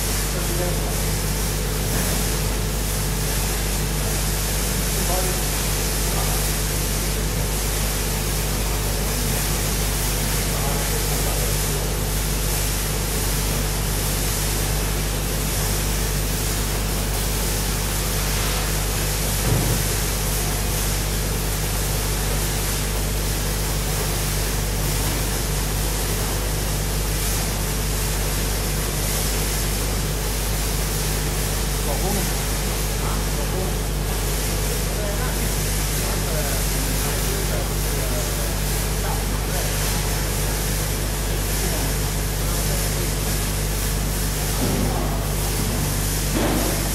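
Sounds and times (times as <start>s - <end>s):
low machine hum: 0.0s - 46.9s
sorting machine hiss: 0.0s - 46.9s.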